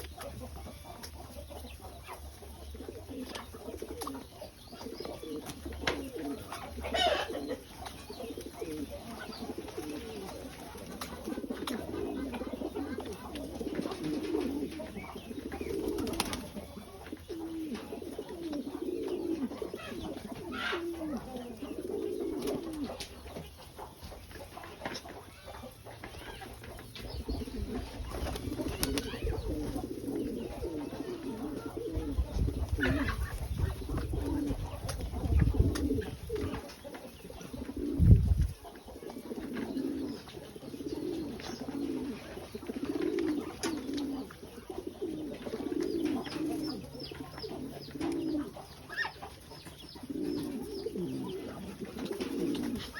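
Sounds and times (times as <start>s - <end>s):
pigeons cooing: 0.0s - 52.9s.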